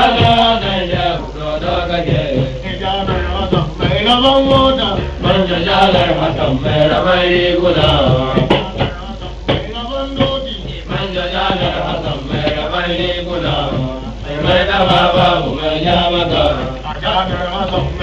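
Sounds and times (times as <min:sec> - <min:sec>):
drum strikes: 0:00.0 - 0:18.0
music: 0:00.0 - 0:18.0.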